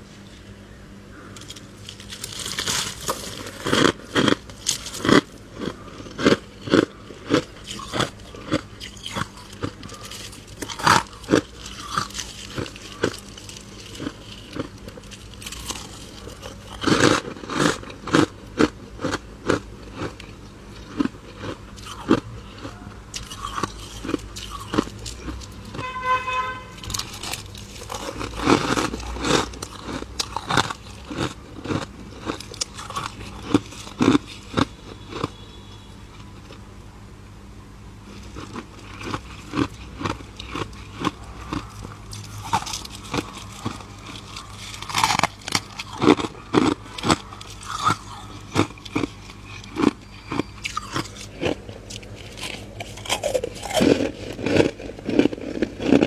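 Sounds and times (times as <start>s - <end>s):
frost being bitten and chewed: 1.4s - 25.9s, 26.8s - 35.5s, 38.0s - 56.0s.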